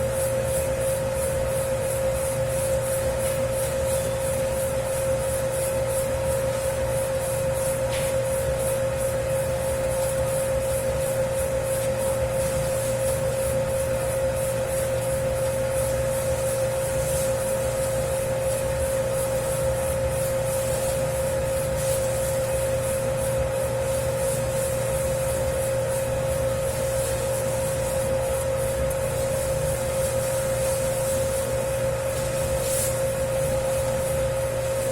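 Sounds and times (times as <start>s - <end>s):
dough kneading machine motor hum: 0.0s - 34.9s
dough swishing in machine: 0.0s - 34.9s.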